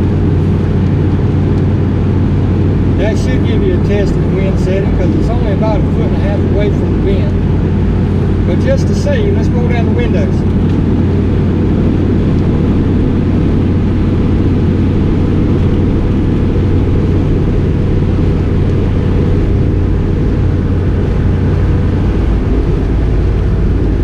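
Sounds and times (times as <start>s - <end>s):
car cabin road and engine drone: 0.0s - 24.0s
heater fan blowing: 0.0s - 24.0s.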